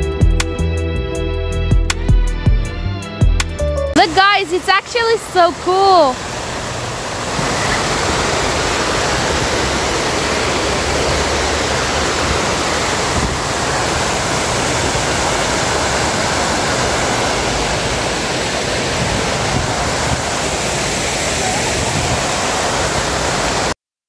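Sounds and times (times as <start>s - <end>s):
fountain water splashing: 4.0s - 23.8s.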